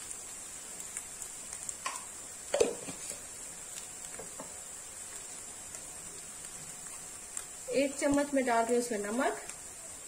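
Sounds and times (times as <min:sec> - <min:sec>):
faint steady high hiss: 0:00.0 - 0:10.0
onions frying: 0:00.0 - 0:10.0.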